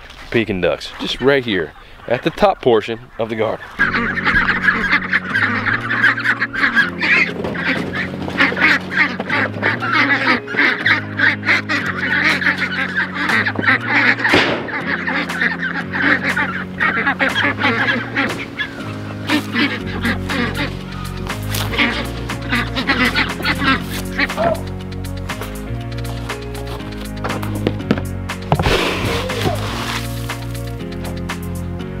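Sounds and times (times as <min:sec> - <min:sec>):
ducks quacking: 0:00.0 - 0:32.0
background music: 0:03.2 - 0:32.0.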